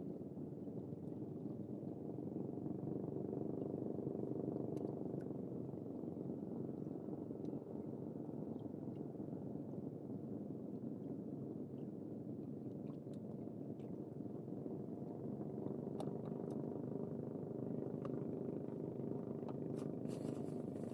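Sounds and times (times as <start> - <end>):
small boat motor running: 0.0 - 20.9.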